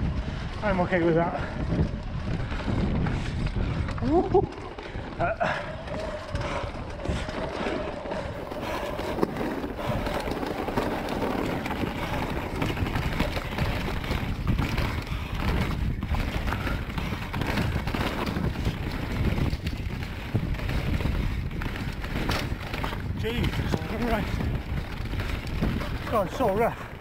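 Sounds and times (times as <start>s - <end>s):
bike knocks and rattles: 0.0s - 27.0s
bike tyres chattering over ground: 0.0s - 27.0s
wind rush on microphone: 0.0s - 27.0s.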